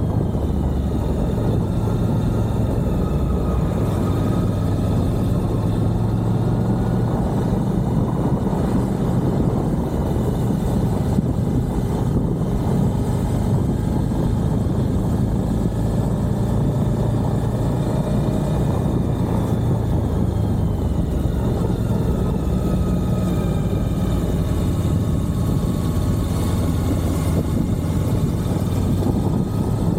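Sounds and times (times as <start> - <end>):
motorcycle engine running: 0.0 - 29.9
wind and road noise: 0.0 - 29.9.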